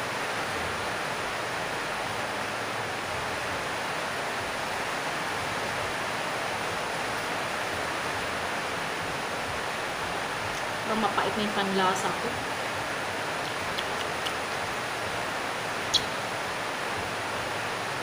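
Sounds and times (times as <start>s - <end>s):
steady rushing hiss: 0.0s - 18.0s.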